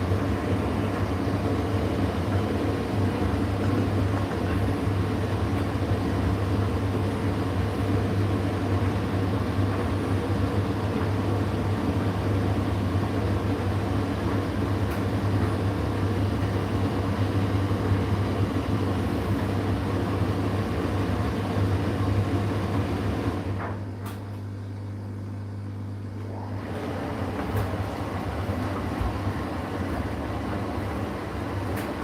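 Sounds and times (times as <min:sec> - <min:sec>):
tumble dryer running: 0:00.0 - 0:32.0.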